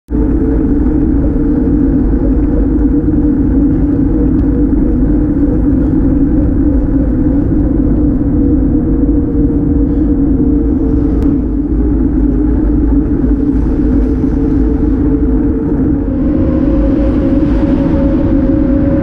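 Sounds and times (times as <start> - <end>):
bicycle road rumble: 0.1 - 19.0
faint constant hum: 0.1 - 19.0
wind buffeting: 0.1 - 19.0.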